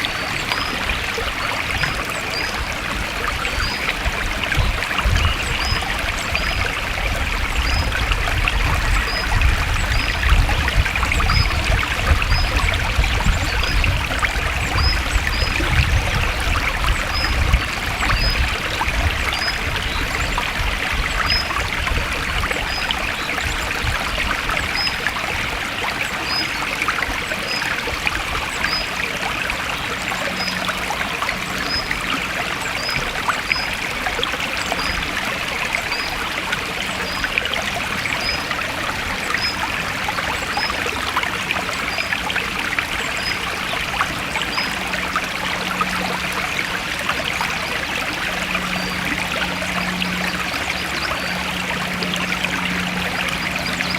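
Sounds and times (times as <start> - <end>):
stream flowing: 0.0 - 53.9.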